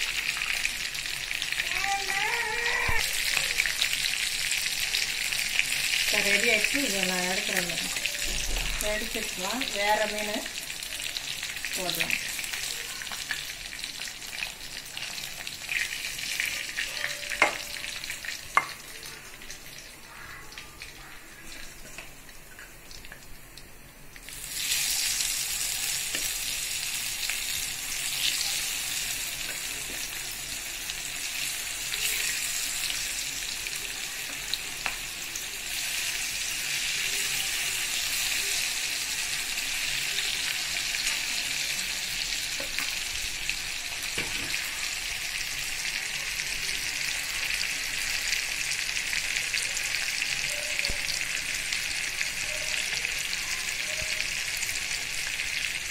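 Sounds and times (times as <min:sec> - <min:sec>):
fish sizzling in hot oil: 0:00.0 - 0:55.9.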